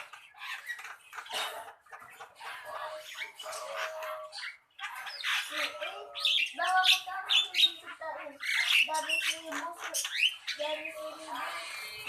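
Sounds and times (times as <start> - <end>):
bird chattering calls: 0.0 - 12.0.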